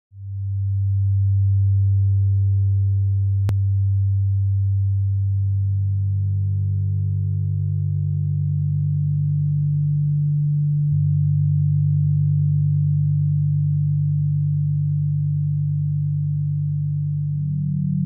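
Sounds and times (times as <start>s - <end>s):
low electronic sine tone drone: 0.2s - 18.0s.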